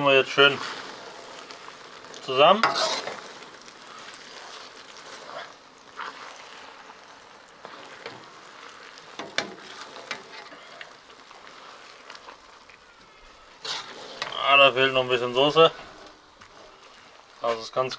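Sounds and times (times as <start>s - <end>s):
noodles sizzling in a wok: 0.0s - 17.9s
metal ladle scraping pan: 0.3s - 14.9s.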